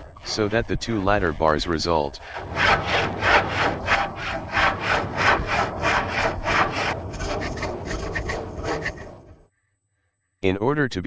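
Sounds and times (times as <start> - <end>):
hand saw cutting wood: 0.0 - 9.4.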